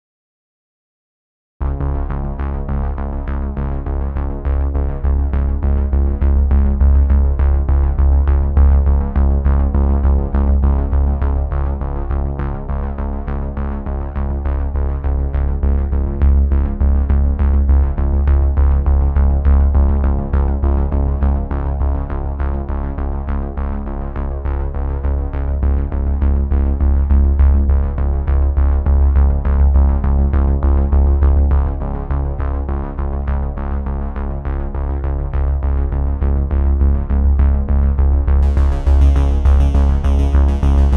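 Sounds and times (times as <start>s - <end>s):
background music with steady beat: 1.6s - 40.9s.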